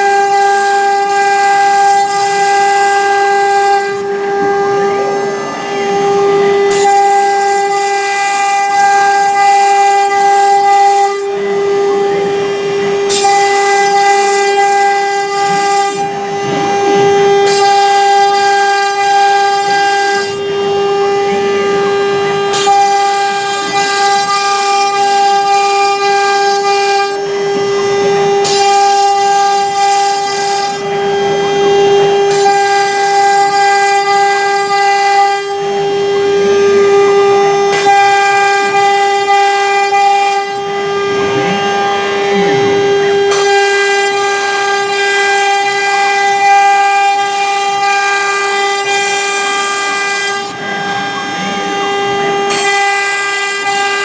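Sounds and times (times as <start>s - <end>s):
router bit engraving hiss: 0.0s - 54.0s
spindle whining at high pitch: 0.0s - 54.0s.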